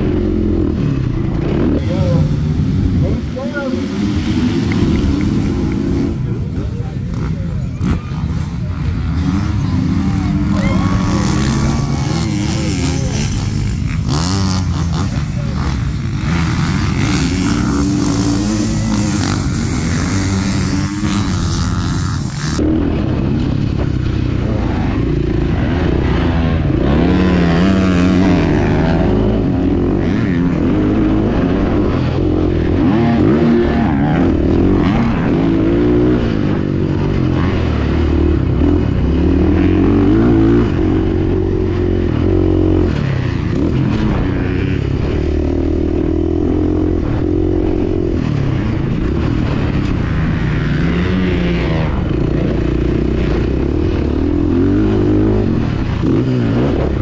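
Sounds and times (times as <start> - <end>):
dirt bike engine revving: 0.0 - 57.0
dirt bikes passing: 0.0 - 57.0.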